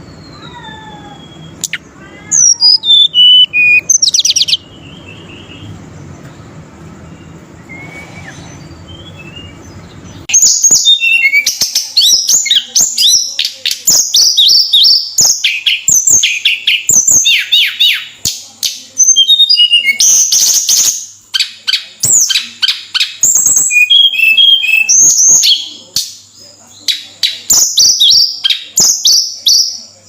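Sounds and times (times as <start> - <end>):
robin singing: 0.0 - 30.0.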